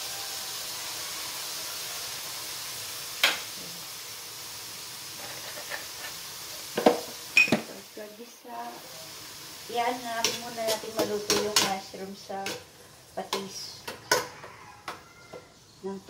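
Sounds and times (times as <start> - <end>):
mushrooms sizzling in a pan: 0.0 - 16.0.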